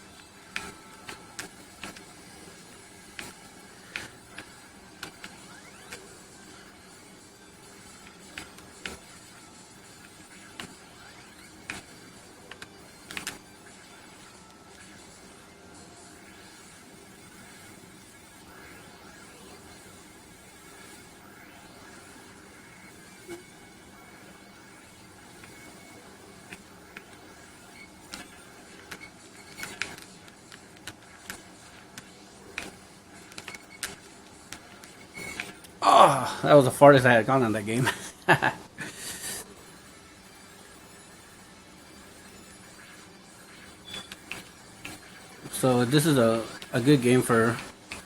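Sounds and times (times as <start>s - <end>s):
quiet video game music: 0.0s - 48.0s.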